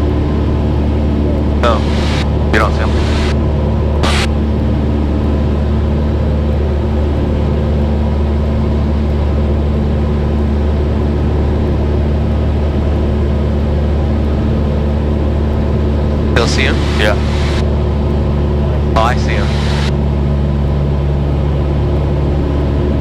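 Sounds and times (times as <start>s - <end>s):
airplane engine and propeller droning: 0.0s - 23.0s.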